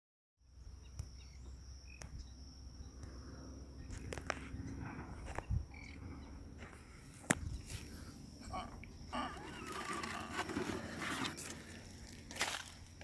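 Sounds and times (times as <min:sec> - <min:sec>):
insect high-pitched trill: 0:00.5 - 0:06.5, 0:07.5 - 0:13.0.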